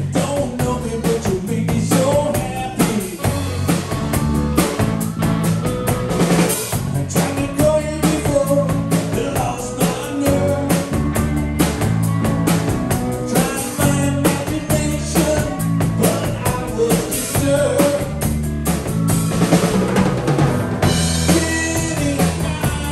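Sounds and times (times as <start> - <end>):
bass guitar: 0.0 - 22.9
drum kit steady beat: 0.0 - 22.9
electric guitars: 0.0 - 22.9
keyboard: 0.0 - 22.9.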